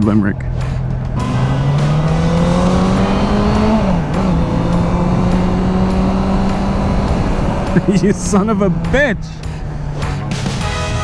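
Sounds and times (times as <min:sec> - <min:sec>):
wind noise: 0:00.0 - 0:11.0
motorcycle engine pulling away: 0:00.5 - 0:10.7.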